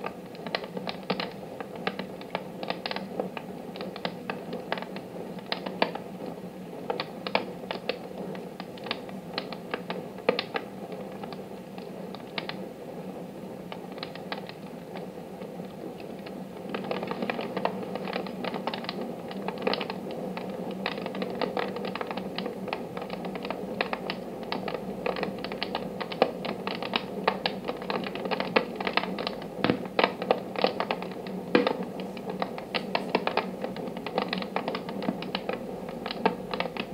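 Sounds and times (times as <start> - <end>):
wood fire crackling: 0.0 - 12.8, 13.6 - 36.9.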